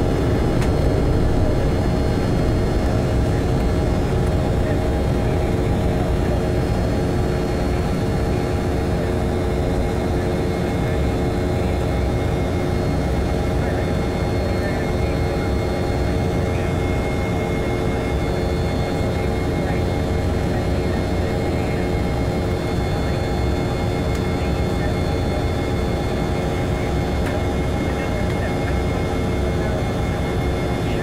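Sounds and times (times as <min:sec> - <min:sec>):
jet engines in aircraft cabin: 0:00.0 - 0:31.0
steady humming tones: 0:00.0 - 0:31.0.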